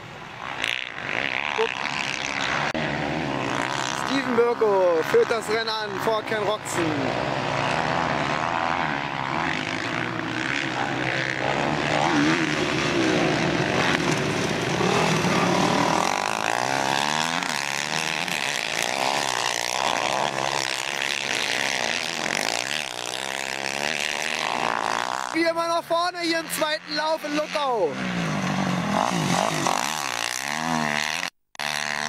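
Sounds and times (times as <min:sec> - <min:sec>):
motocross engines revving: 0:00.0 - 0:32.0.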